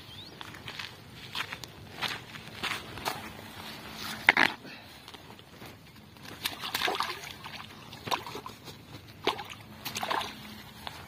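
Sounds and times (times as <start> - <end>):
water splashing and sloshing: 0.8 - 11.0.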